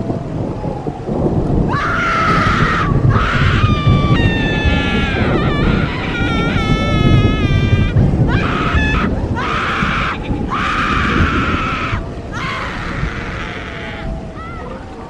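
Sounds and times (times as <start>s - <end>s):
low rumble: 0.0s - 15.0s
harsh screams: 1.7s - 14.8s.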